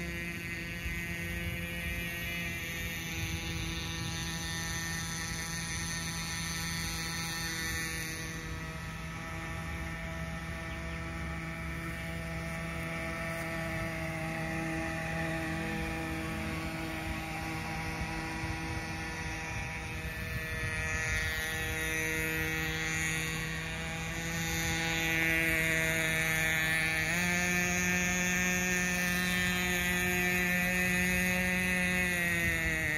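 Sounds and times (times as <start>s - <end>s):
model boat engine high pitch: 0.0s - 32.9s.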